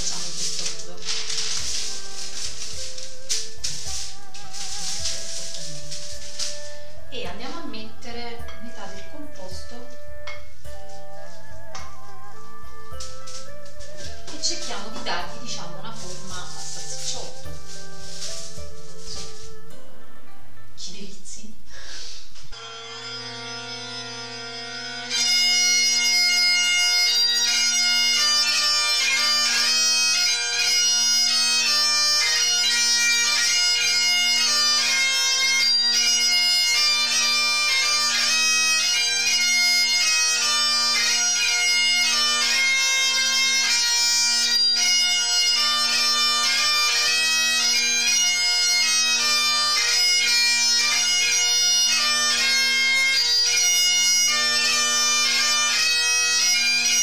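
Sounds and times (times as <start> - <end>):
bagpipe drones humming: 0.0 - 19.8, 22.5 - 57.0
bagpipe chanter melody: 0.0 - 20.3, 21.8 - 57.0.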